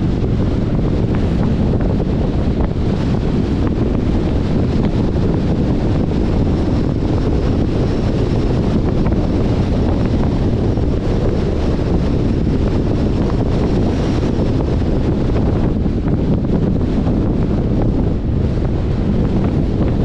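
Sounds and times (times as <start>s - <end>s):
road and tyre noise: 0.0s - 20.0s
wind on microphone: 0.0s - 20.0s.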